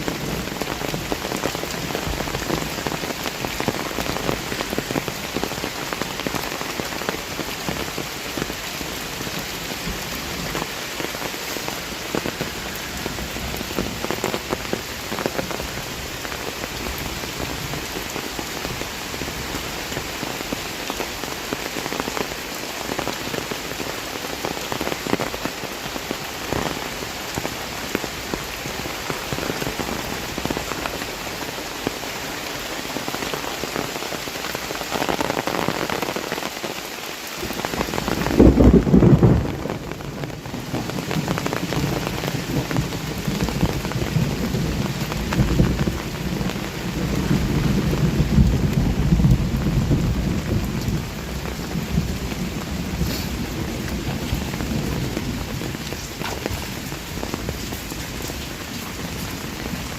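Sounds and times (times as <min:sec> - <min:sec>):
heavy rain: 0:00.0 - 0:59.9
raindrops ticking: 0:00.0 - 0:59.9.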